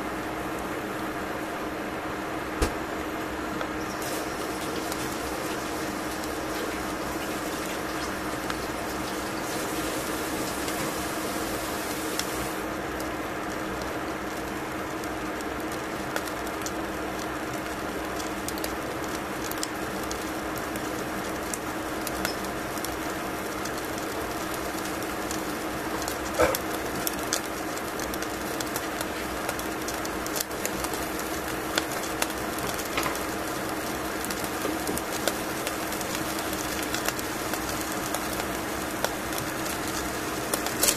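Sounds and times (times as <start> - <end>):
small pops and crackles: 3.6 - 40.9
fish sizzling in a pan: 3.8 - 40.9.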